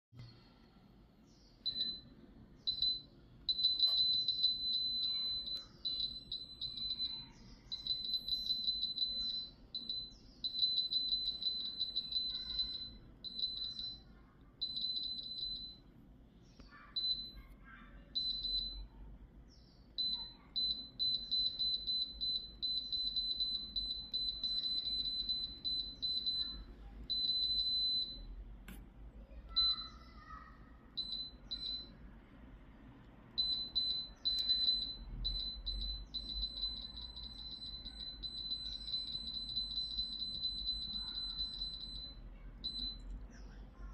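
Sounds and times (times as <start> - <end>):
high-pitched control panel beeps: 1.6 - 16.0, 16.6 - 19.0, 19.8 - 28.8, 29.5 - 32.1, 33.1 - 43.9.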